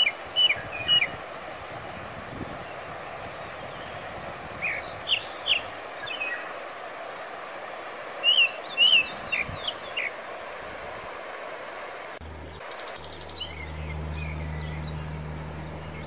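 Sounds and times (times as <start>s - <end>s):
small birds chirping: 0.0s - 6.6s, 8.2s - 11.0s, 12.2s - 16.0s
steady outdoor hiss: 0.0s - 16.0s.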